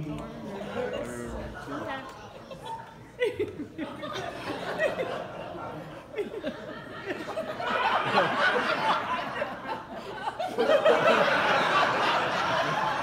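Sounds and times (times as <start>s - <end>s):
audience laughing: 0.6s - 13.0s.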